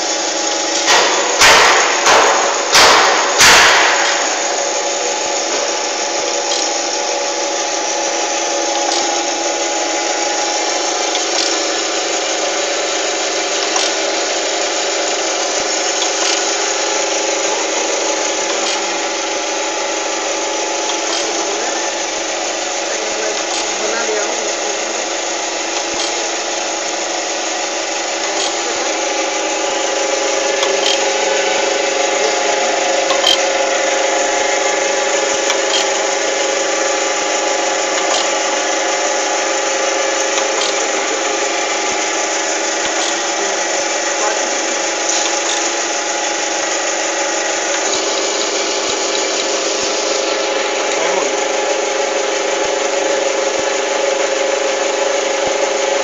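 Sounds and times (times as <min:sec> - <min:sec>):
grinder machine hum with hiss: 0:00.0 - 0:56.0.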